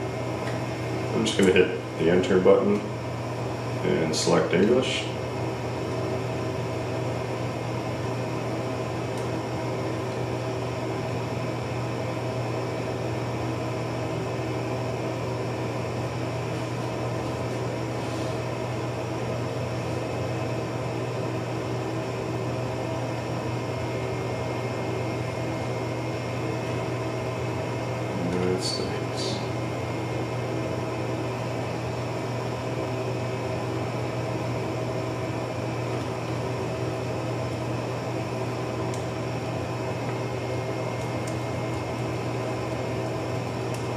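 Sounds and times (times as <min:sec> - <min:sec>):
low machine hum with steady tones: 0:00.0 - 0:43.9.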